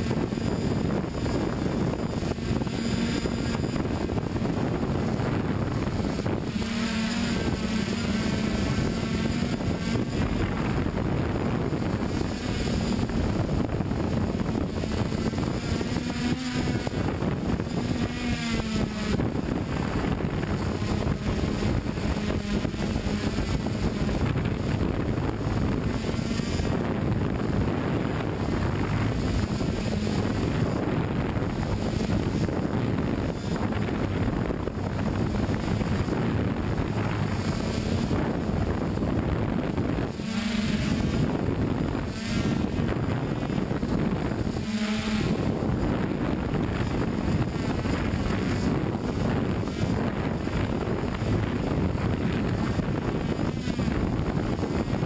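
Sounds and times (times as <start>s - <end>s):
drone motors humming: 0.0s - 55.0s
wind on microphone: 0.0s - 55.0s.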